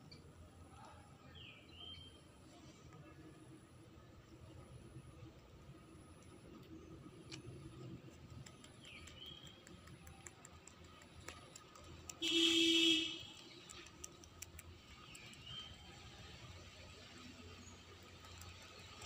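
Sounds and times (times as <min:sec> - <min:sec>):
rabbits chewing leaves: 0:02.6 - 0:19.0.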